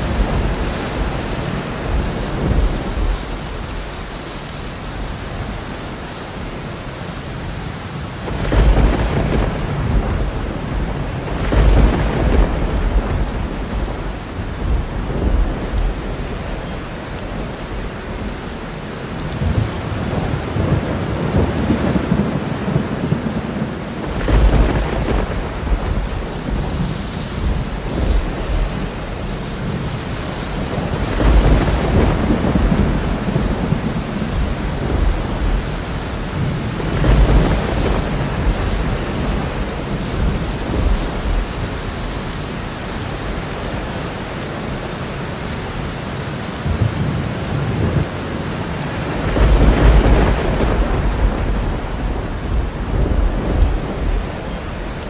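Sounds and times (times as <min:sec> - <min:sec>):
thunder rolling: 0:00.0 - 0:04.1, 0:08.2 - 0:18.4, 0:19.4 - 0:43.8, 0:46.7 - 0:55.0
steady rain: 0:00.0 - 0:55.0.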